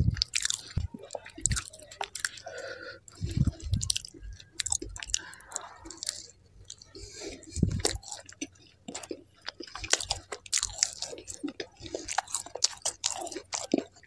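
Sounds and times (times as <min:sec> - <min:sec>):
close chewing: 0:00.0 - 0:14.0.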